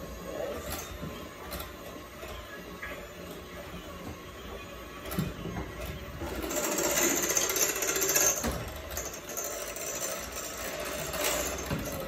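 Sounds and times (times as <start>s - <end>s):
electric hand mixer beating: 0.0s - 12.0s.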